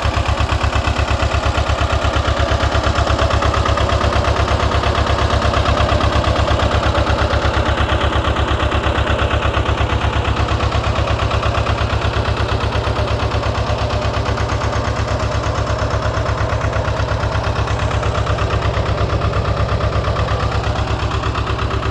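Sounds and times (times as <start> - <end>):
diesel engine idling: 0.0 - 21.9.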